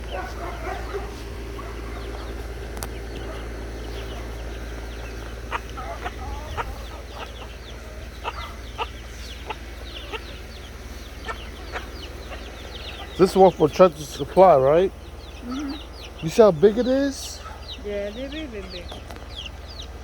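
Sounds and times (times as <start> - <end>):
chickens clucking and calling: 0.0 - 20.0.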